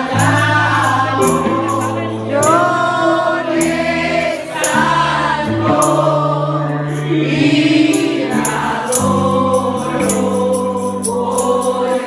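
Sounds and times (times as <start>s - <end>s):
tambourine struck in a beat: 0.0s - 6.3s, 7.9s - 12.0s
bass and keyboard chords: 0.0s - 12.0s
voices singing together: 0.0s - 12.0s.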